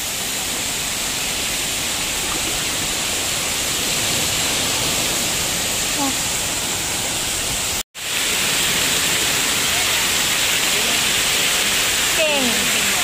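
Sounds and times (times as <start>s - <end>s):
water splashing from fountains: 0.0s - 13.0s.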